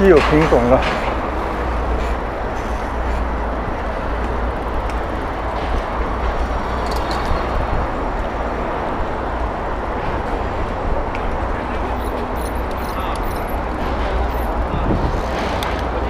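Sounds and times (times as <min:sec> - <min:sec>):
bicycle road noise: 0:00.0 - 0:16.0
street traffic: 0:00.0 - 0:16.0
wind rush on microphone: 0:00.0 - 0:16.0.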